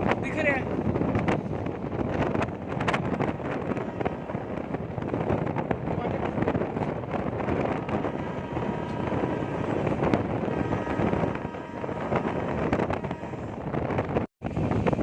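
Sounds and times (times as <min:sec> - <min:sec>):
train wheels rumbling on rails: 0:00.0 - 0:15.0
wind buffeting microphone: 0:00.0 - 0:15.0.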